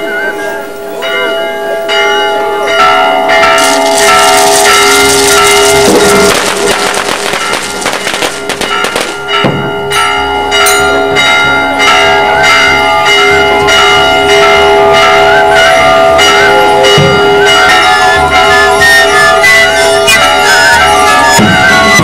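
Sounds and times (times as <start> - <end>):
large church bell ringing: 0.0 - 22.0.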